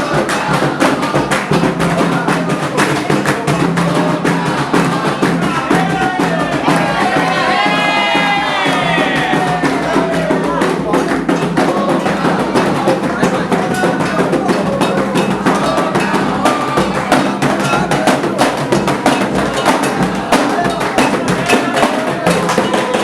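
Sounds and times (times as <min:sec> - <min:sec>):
fast hand-drumming: 0:00.0 - 0:23.0
voices singing a chant: 0:00.0 - 0:23.0.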